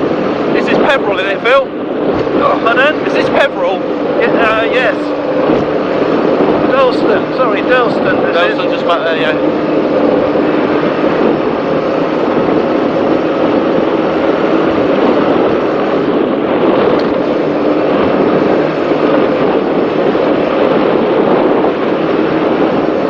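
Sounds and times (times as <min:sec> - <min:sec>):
powerboat engine drone: 0:00.0 - 0:23.0
rushing wind and water: 0:00.0 - 0:23.0.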